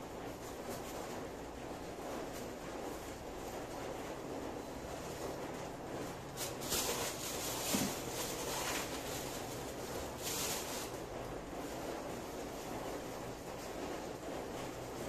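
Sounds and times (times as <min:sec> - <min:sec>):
pot of water boiling: 0:00.0 - 0:15.0
plastic bag rustling: 0:00.2 - 0:15.0.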